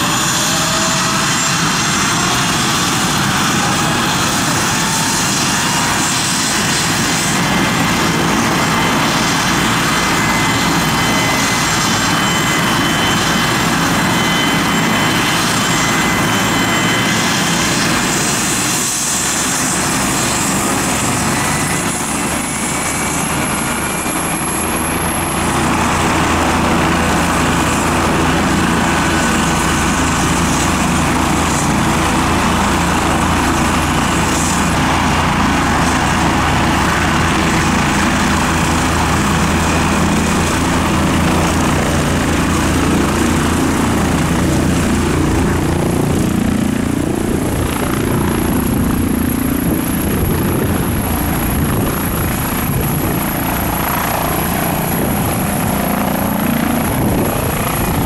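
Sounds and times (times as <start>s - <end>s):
helicopter rotor beat: 0.0s - 58.0s
helicopter turbine whine: 0.0s - 58.0s.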